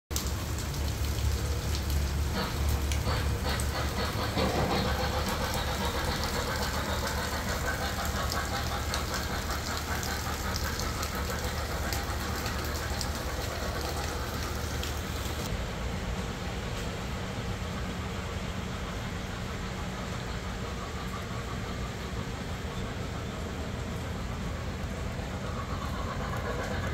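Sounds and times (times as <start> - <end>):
model train rumbling on track: 0.1 - 26.9
rain: 0.1 - 26.9.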